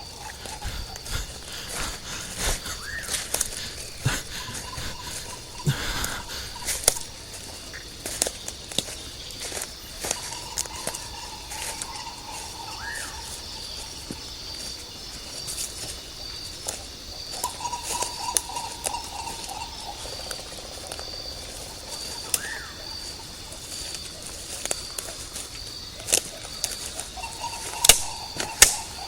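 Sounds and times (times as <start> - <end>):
drawn-out lower trills: 0.0 - 29.0
insects trilling: 0.0 - 29.0.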